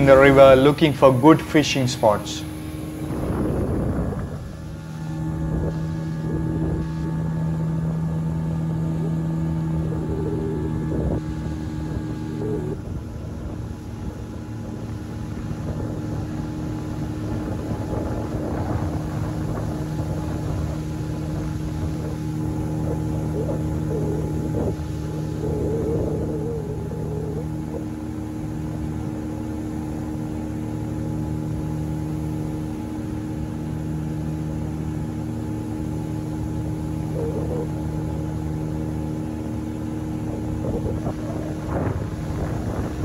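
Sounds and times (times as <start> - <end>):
motorboat engine running: 0.0 - 43.0.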